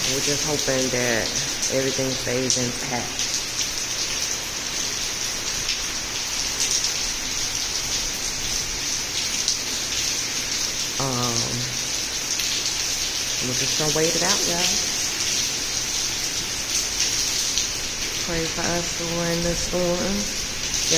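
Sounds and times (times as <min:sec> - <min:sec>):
heavy rain hissing: 0:00.0 - 0:20.9
raindrops striking close by: 0:00.0 - 0:20.9.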